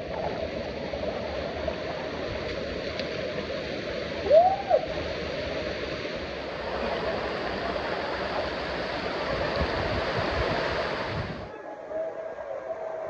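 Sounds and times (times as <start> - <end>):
waterfall rushing over rock: 0.0 - 11.5.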